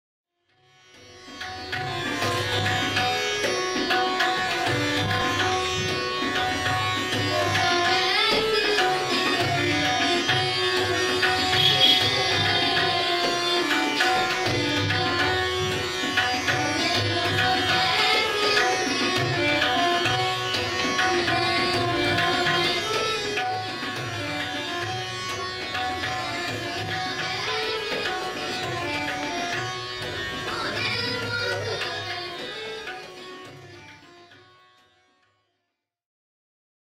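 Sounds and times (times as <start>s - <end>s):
tabla: 0.4s - 35.7s
tanpura drone: 0.6s - 35.0s
harmonium: 0.7s - 35.0s.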